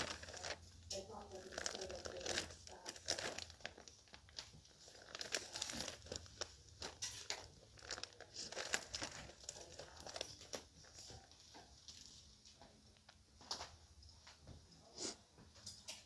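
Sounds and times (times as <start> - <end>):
plastic bags crinkling: 0.0 - 13.8.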